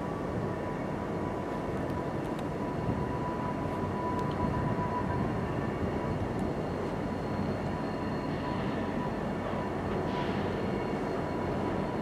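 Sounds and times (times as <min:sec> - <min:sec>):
distant diesel locomotives rumbling: 0:00.0 - 0:12.0.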